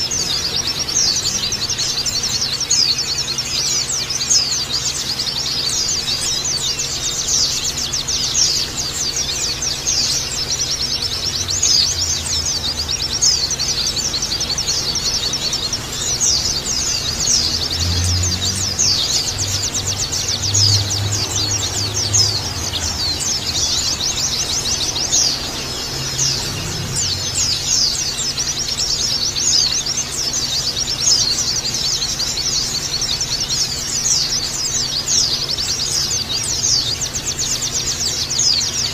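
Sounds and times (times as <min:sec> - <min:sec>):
small birds chirping in chorus: 0:00.0 - 0:38.9.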